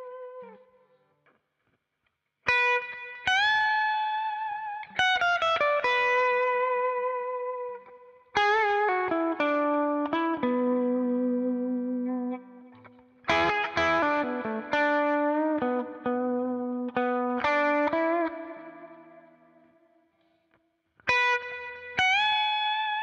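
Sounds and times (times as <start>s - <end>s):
electric guitar blues lick: 0.0s - 1.4s, 2.5s - 19.7s, 21.0s - 23.0s.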